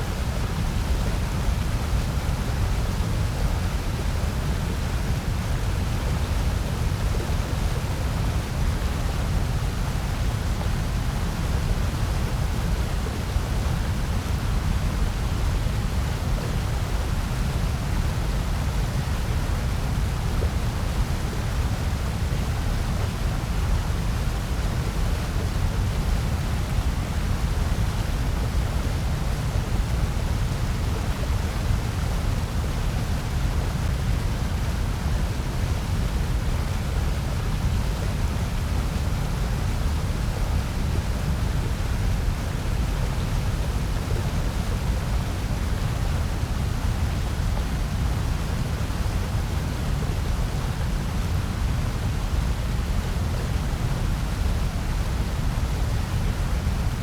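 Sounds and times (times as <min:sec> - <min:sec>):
white noise with deep rumble: 0:00.0 - 0:57.0.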